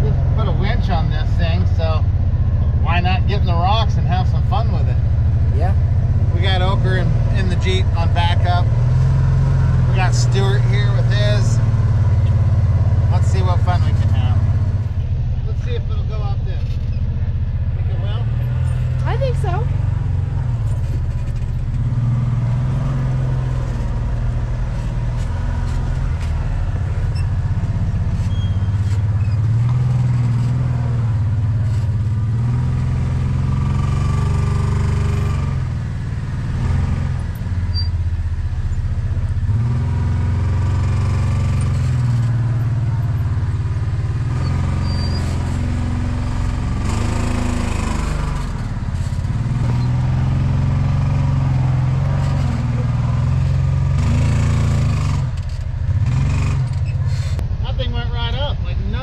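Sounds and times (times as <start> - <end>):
off-road vehicle engine: 0.0 - 59.0.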